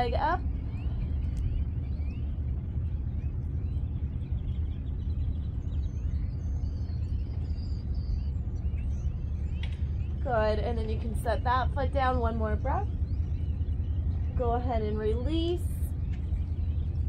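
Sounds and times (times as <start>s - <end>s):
bird chirps: 0.0s - 17.0s
low outdoor rumble: 0.0s - 17.0s.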